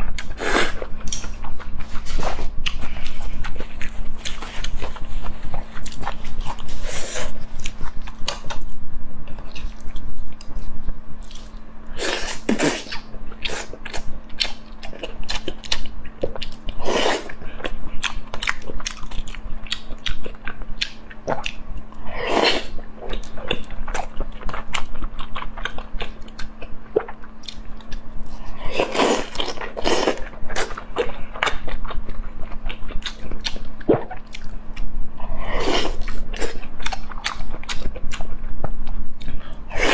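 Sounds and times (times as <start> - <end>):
faint steady hum: 0.0 - 39.9
person chewing food: 0.0 - 39.9.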